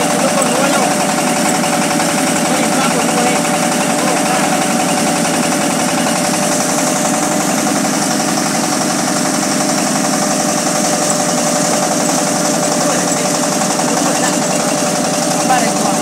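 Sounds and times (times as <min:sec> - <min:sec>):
machine whine: 0:00.0 - 0:16.0
rice milling machine droning: 0:00.0 - 0:16.0.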